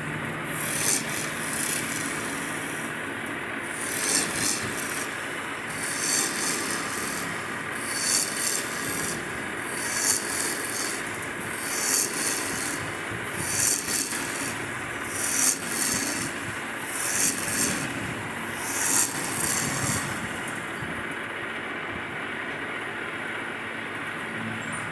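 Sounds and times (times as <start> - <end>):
sanding strokes on wood: 0.0 - 21.0
steady background hum: 0.0 - 24.9.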